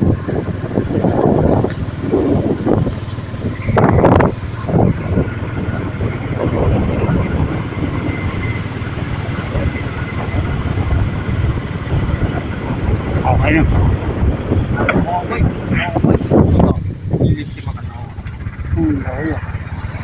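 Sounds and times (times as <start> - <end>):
vehicle rumbling along road: 0.0 - 20.0.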